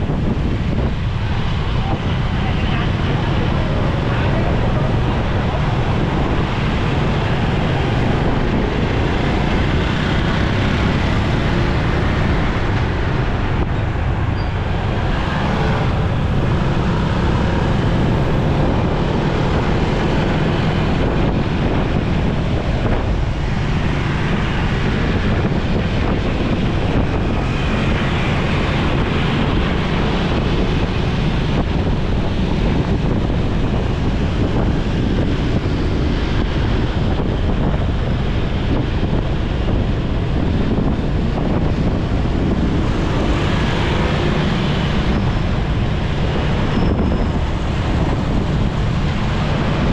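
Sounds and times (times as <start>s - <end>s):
traffic and road noise: 0.0s - 49.9s
wind rush on microphone: 0.0s - 49.9s.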